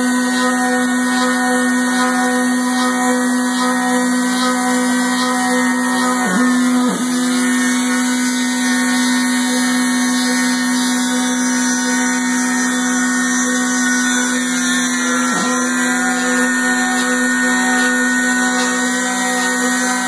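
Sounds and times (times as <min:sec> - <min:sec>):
milling machine whining: 0:00.0 - 0:20.0.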